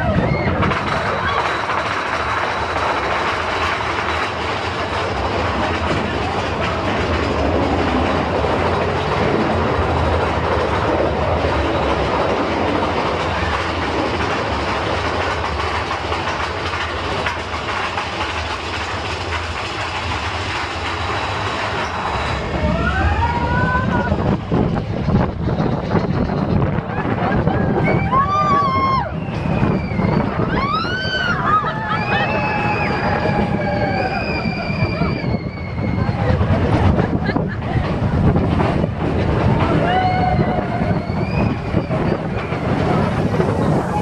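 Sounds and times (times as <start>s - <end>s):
vehicle rumbling and rattling: 0.0s - 44.0s.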